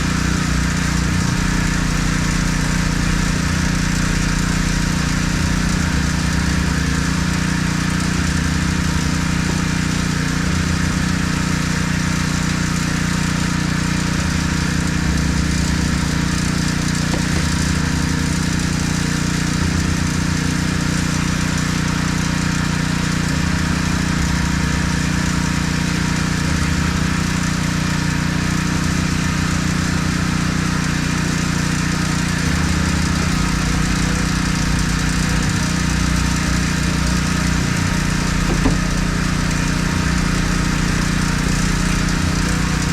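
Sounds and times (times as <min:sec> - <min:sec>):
pressurised water spray hissing: 0:00.0 - 0:42.9
small gasoline engine running: 0:00.0 - 0:42.9.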